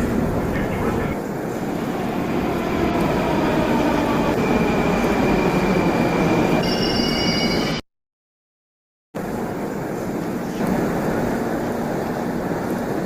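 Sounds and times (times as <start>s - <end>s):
metro train rumble: 0.0s - 7.8s, 9.2s - 13.0s.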